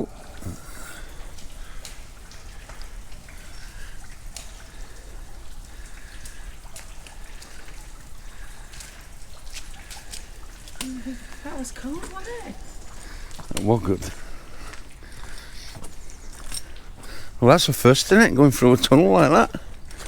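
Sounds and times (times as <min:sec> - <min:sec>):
steady wet hiss: 0:00.0 - 0:20.0
water dripping: 0:00.0 - 0:20.0.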